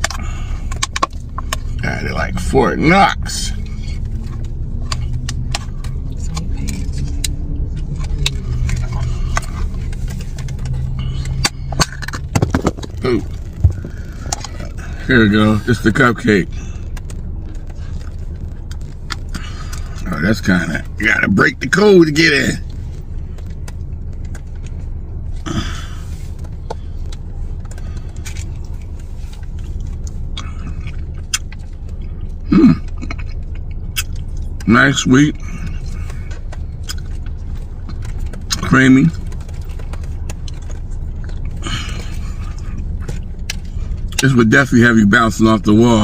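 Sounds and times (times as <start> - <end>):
steady low hum: 0.0 - 46.0
steady low rumble: 0.0 - 46.0.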